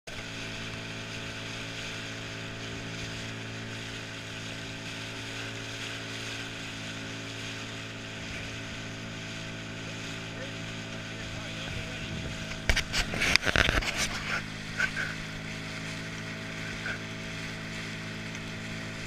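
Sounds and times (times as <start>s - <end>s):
boat engine humming: 0.1s - 19.0s
hiss of water and air: 0.1s - 19.0s.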